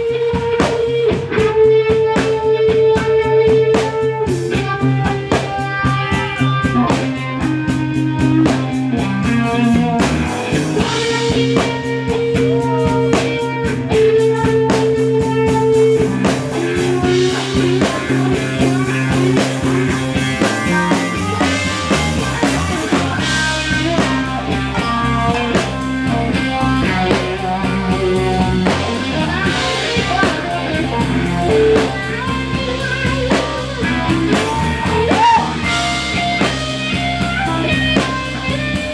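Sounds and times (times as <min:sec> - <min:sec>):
drum kit: 0:00.0 - 0:38.9
electric guitar: 0:00.0 - 0:38.9
keyboard: 0:00.0 - 0:38.9.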